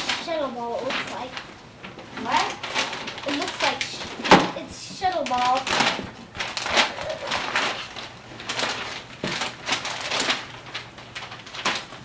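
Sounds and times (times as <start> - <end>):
wrapping paper tearing and rustling: 0.0 - 12.0.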